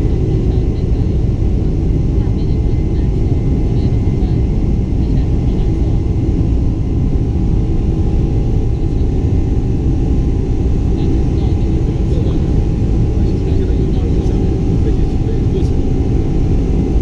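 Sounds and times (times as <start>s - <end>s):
airplane cabin low rumble: 0.0s - 17.0s
faint jet engine whine: 0.0s - 17.0s.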